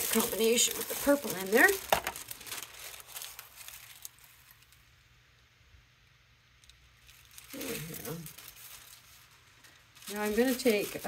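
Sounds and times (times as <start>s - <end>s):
tissue paper rustling: 0.0s - 4.8s, 6.9s - 11.0s.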